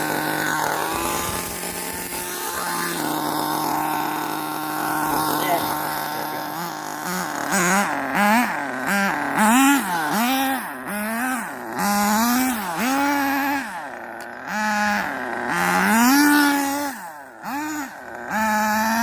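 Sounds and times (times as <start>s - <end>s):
rc car motor whining: 0.0s - 19.0s.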